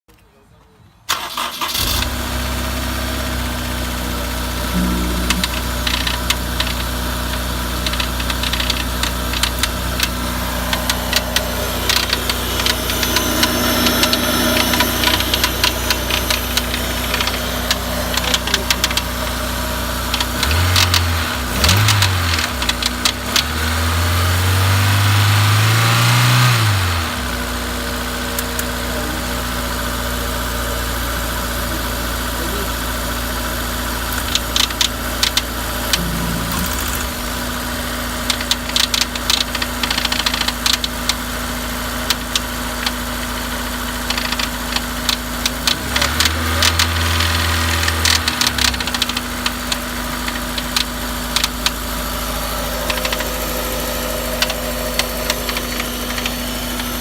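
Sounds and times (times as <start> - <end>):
car engine idling and revving: 1.1 - 57.0
engine ticking: 1.1 - 57.0.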